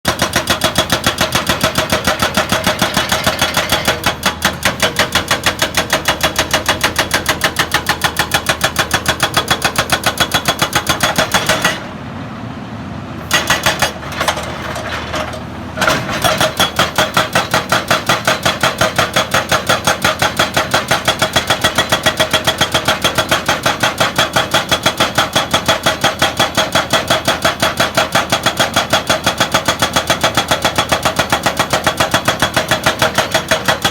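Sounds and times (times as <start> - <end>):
excavator engine: 0.1 - 33.9.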